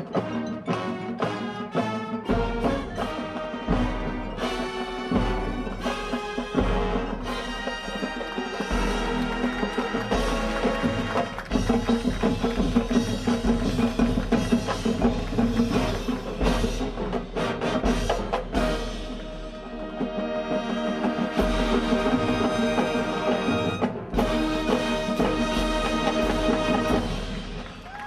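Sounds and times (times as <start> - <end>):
marching band brass and drums: 0.0 - 28.0
timpani: 0.0 - 28.0.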